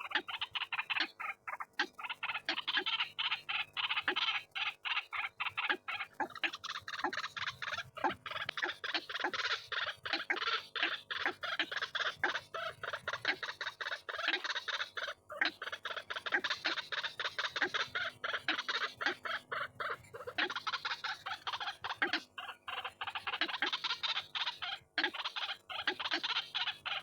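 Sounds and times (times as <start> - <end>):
bird harsh croaking calls: 0.0 - 27.0.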